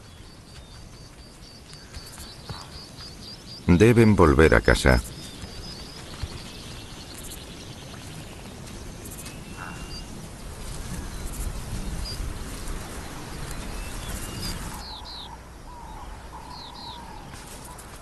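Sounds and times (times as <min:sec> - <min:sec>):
faint bird chirps: 0:00.0 - 0:10.2, 0:13.4 - 0:18.0.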